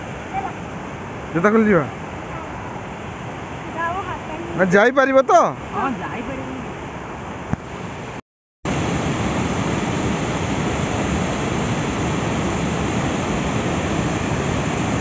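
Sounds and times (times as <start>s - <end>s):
waterfall rushing water: 0.0s - 15.0s.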